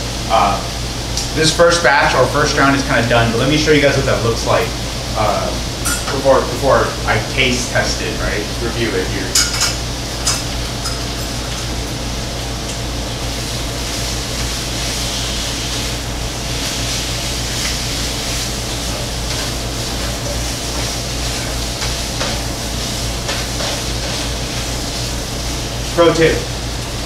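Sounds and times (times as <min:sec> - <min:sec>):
steady low hum: 0:00.0 - 0:27.0
meat sizzling in a frying pan: 0:00.1 - 0:27.0.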